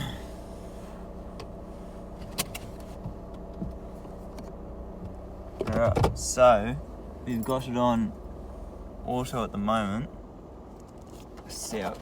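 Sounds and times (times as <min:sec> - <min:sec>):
engine idling from inside cab: 0:00.0 - 0:12.0.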